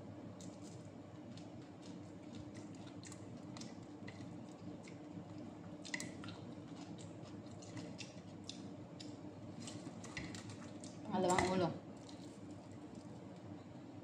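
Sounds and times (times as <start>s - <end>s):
chewing and mouth smacks: 0.4s - 11.1s, 12.0s - 13.4s.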